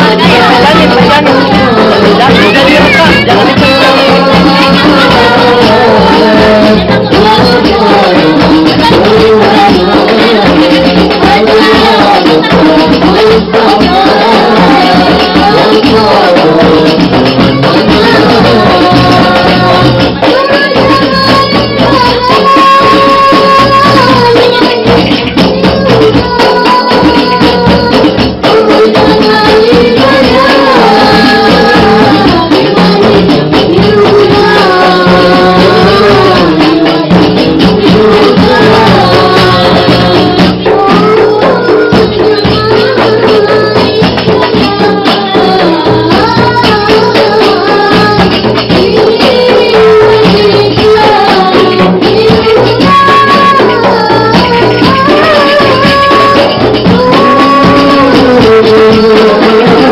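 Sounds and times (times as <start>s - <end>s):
hand-struck frame drums: 0.0s - 59.9s
person singing devotional melody: 0.0s - 59.9s.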